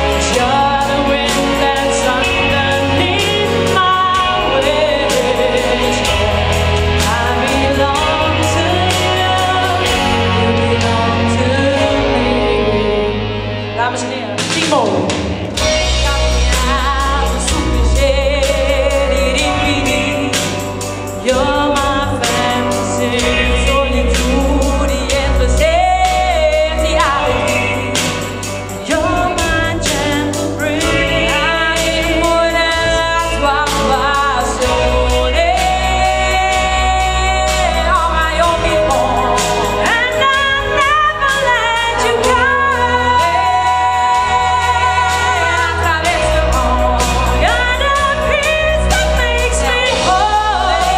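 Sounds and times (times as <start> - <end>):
beat and bass: 0.0 - 50.9
person singing: 0.0 - 50.9.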